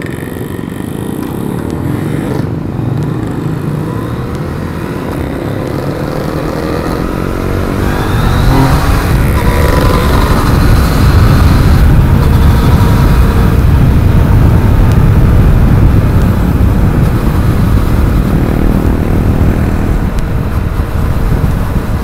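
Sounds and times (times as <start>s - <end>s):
motorcycle engine accelerating: 0.0s - 22.0s
wind on microphone: 0.0s - 22.0s.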